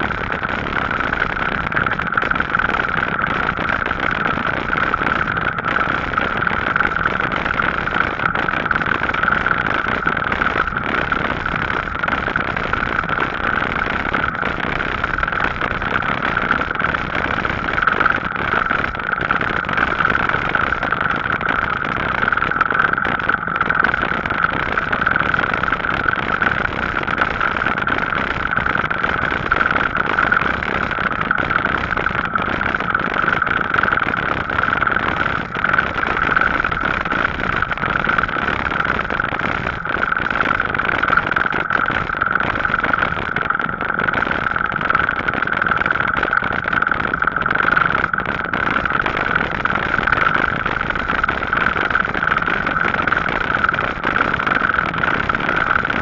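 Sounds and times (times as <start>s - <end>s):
high motor whine: 0.0s - 56.0s.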